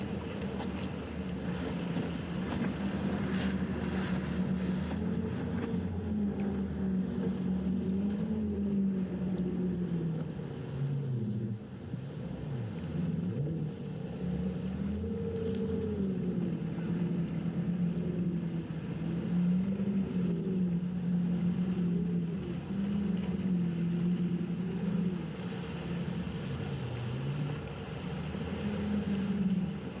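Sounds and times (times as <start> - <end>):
outboard boat engines: 0.0 - 30.0.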